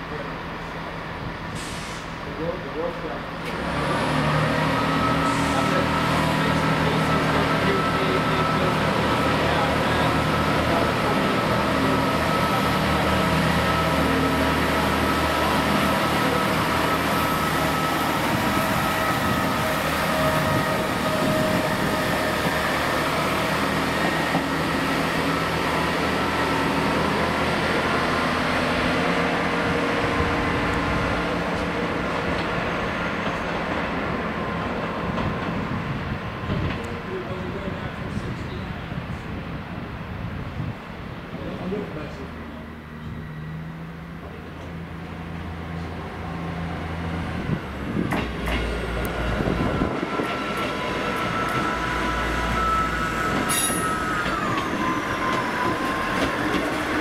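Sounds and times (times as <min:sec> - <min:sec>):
diesel train droning: 0:00.0 - 0:57.0.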